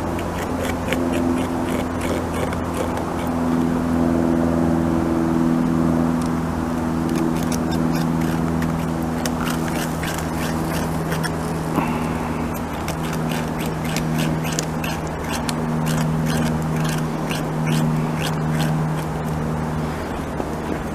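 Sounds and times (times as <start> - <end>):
beaver gnawing wood: 0.0 - 3.8, 6.2 - 20.9
low mechanical hum: 0.0 - 20.9.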